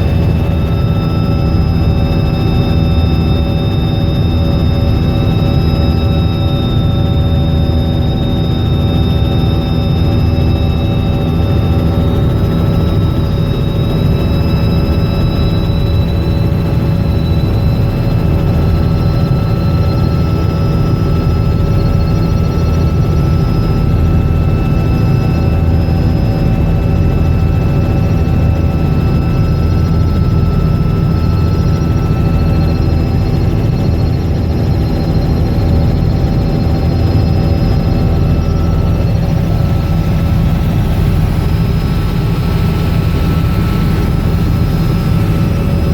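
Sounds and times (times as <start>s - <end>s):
helicopter rotor and engine: 0.0s - 45.9s
high turbine whine: 0.0s - 45.9s.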